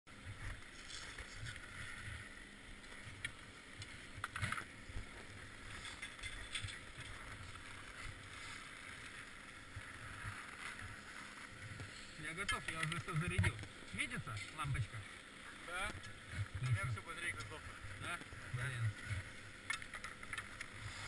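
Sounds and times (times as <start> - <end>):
skis and poles on packed snow: 0.2 - 21.0.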